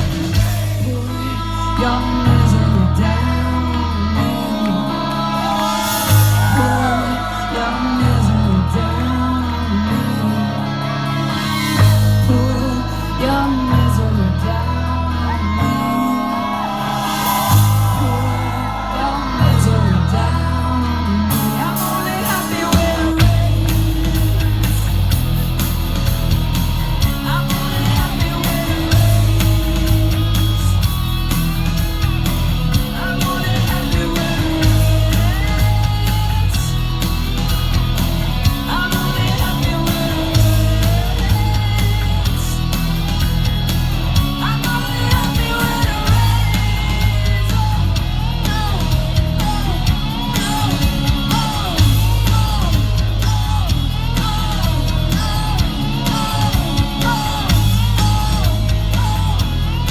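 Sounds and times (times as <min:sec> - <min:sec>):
steady drumbeat: 0:00.0 - 0:02.6, 0:05.1 - 0:08.8, 0:16.4 - 0:20.2, 0:21.3 - 0:59.9
woman singing: 0:00.0 - 0:25.0, 0:26.4 - 0:31.7, 0:32.7 - 0:43.4, 0:44.1 - 0:59.9
live rock band playing: 0:00.0 - 0:59.9.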